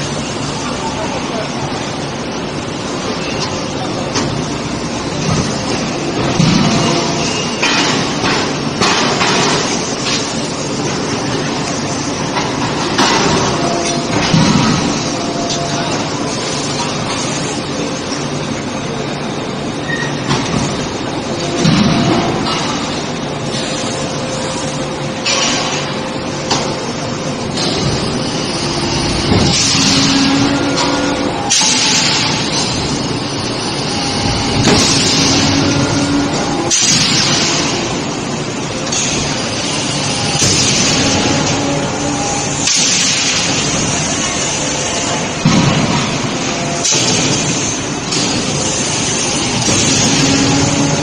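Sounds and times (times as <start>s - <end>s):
forging machinery running: 0.0s - 51.0s.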